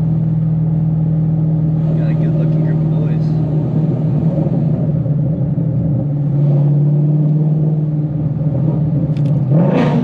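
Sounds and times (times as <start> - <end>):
car engine running inside cabin: 0.0 - 10.0.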